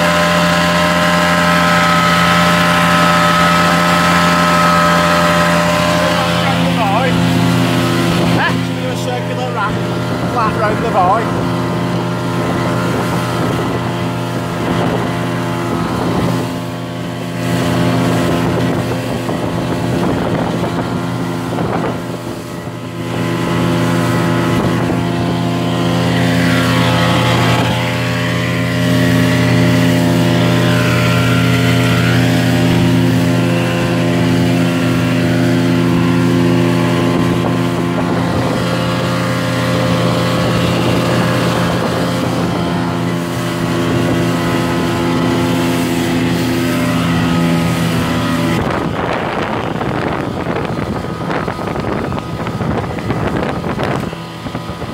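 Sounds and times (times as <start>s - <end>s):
motorboat engine droning: 0.0s - 54.9s.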